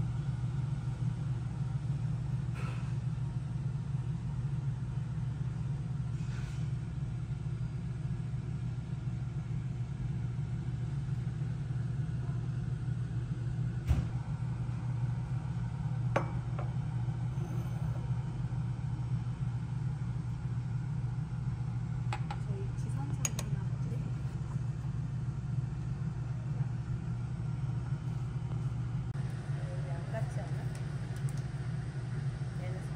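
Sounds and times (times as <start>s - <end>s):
low mechanical hum: 0.0s - 32.9s.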